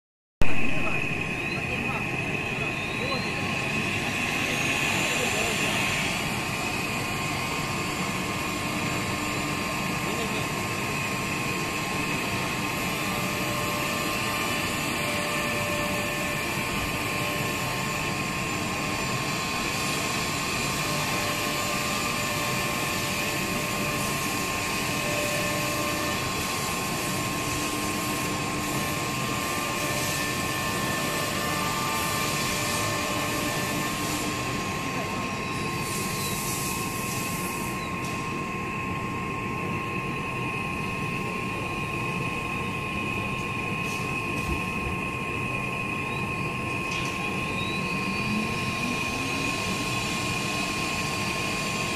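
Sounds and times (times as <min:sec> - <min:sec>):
router spindle whine: 0:00.4 - 0:51.9.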